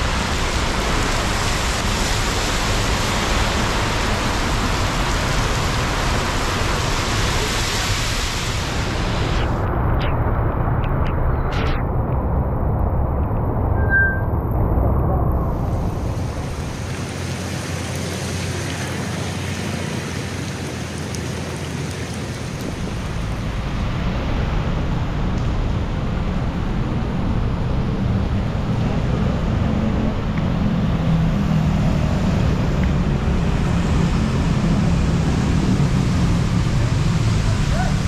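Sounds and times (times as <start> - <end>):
tyre noise on wet road: 0.0 - 38.0.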